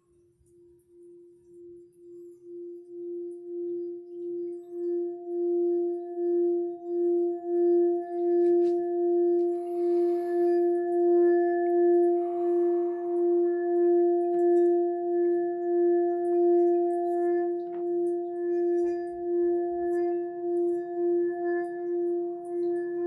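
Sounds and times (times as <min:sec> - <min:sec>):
singing bowl pulsing tone: 0:00.0 - 0:23.0.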